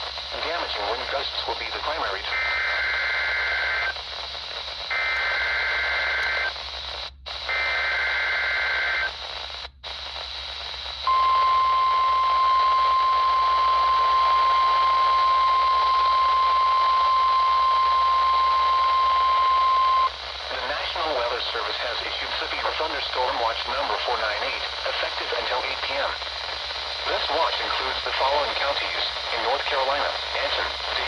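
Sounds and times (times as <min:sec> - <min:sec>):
radio reception hiss: 0:00.0 - 0:31.0.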